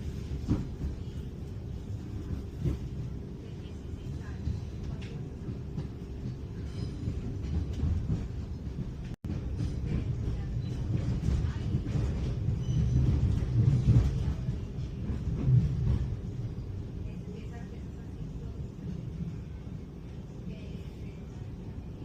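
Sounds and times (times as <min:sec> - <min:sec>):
train rumbling from on board: 0:00.0 - 0:22.0.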